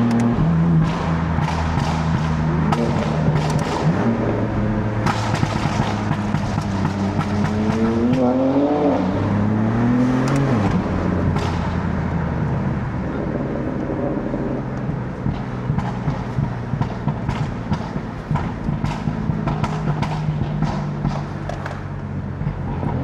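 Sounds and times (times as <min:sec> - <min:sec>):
sharp exhaust cracks: 0:00.0 - 0:08.3, 0:10.0 - 0:22.6
car engine revving: 0:00.0 - 0:23.0.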